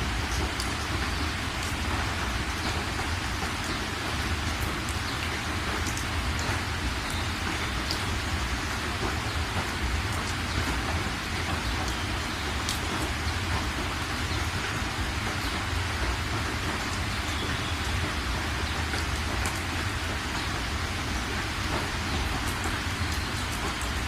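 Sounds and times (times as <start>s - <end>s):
rain falling on surfaces: 0.0s - 24.0s.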